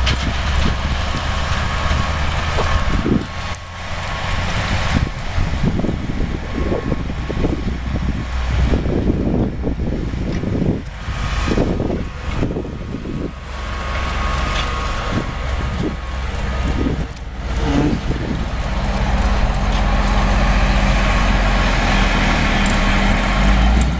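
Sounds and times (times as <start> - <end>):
tractor diesel engine: 0.0 - 23.9
truck diesel engine: 0.0 - 23.9.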